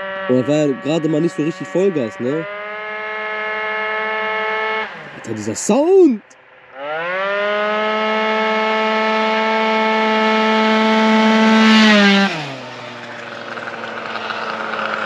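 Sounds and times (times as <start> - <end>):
scooter two-stroke engine revving: 0.0 - 15.0.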